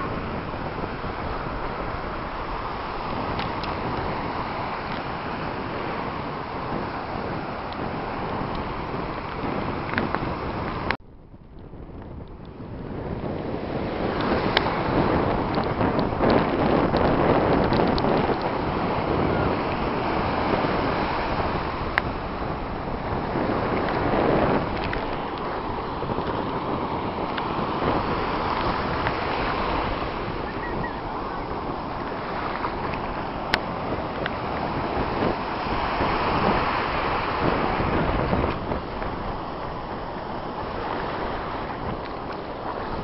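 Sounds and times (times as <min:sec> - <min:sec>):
ocean surf: 0:00.0 - 0:11.0, 0:12.0 - 0:43.0
wind rushing over microphone: 0:00.0 - 0:43.0.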